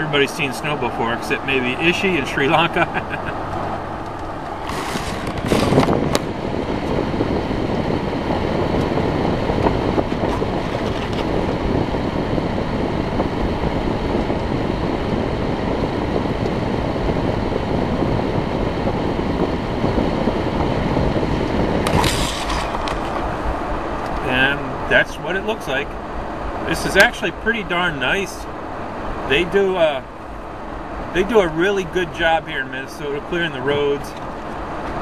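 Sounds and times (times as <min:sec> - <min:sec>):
low engine hum: 0:00.0 - 0:35.0
road and tyre noise: 0:00.0 - 0:35.0.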